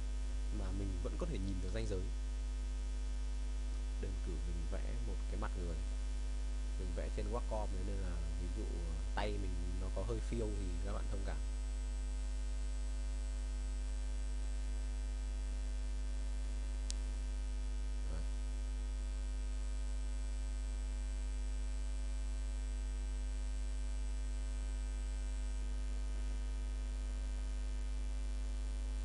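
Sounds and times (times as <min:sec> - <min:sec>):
electrical mains hum: 0:00.0 - 0:29.0
faint high whine: 0:00.0 - 0:29.0.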